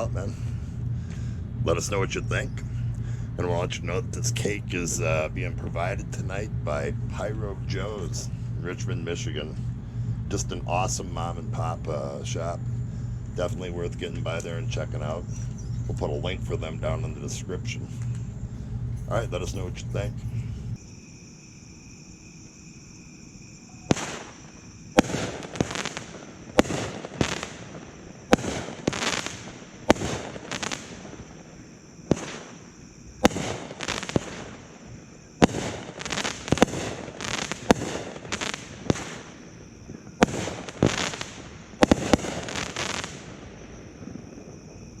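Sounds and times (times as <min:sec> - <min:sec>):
fireworks reports: 0:00.0 - 0:20.8, 0:23.7 - 0:45.0.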